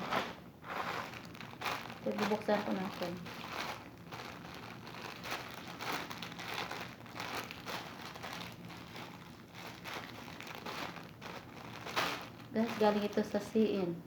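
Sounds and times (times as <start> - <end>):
packaging crinkling: 0.0 - 13.6.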